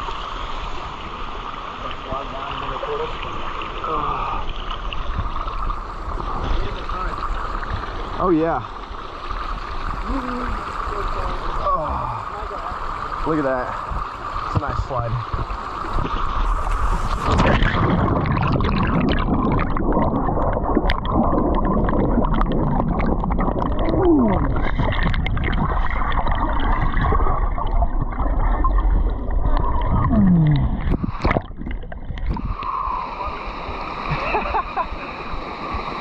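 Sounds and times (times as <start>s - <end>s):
creek water rushing over rock: 0.0s - 36.0s.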